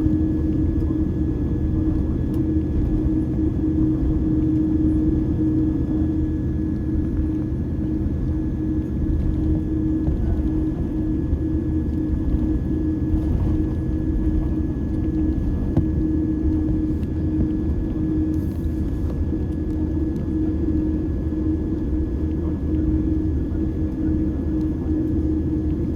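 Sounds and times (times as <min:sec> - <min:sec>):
jet engines rumbling in cabin: 0:00.0 - 0:25.9.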